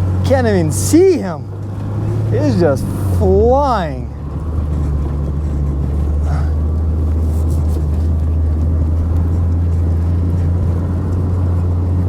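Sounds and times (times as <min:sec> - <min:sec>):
vehicle engine droning in snow: 0:00.0 - 0:12.0.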